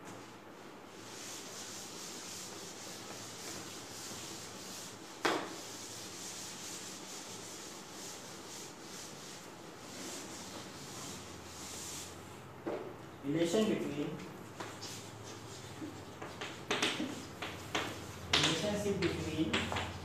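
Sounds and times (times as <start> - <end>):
duster rubbing chalkboard: 0.1 - 12.3, 13.6 - 20.0.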